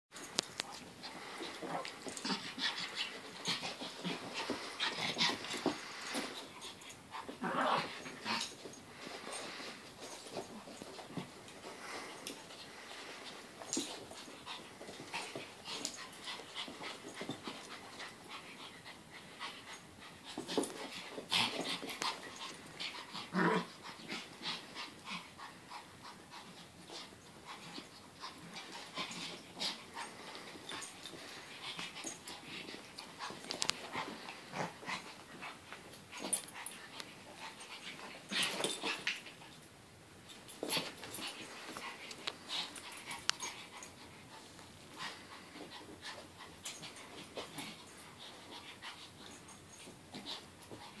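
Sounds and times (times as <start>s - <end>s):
paws clicking on carpet: 0.2s - 39.6s, 40.3s - 51.0s
dogs scuffling and breathing: 0.2s - 51.0s.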